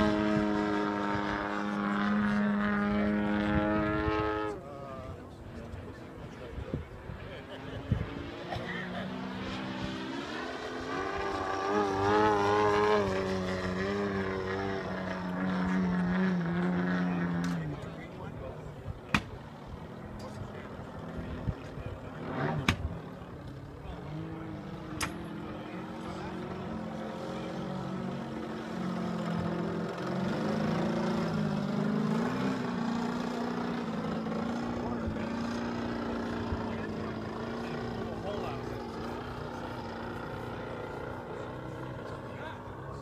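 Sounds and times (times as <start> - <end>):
propeller airplane droning overhead: 0.0 - 43.0.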